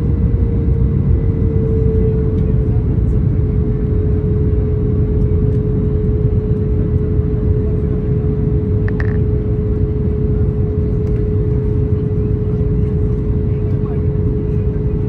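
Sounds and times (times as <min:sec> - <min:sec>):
aircraft engines rumbling: 0:00.0 - 0:15.0
steady hum: 0:02.4 - 0:15.0.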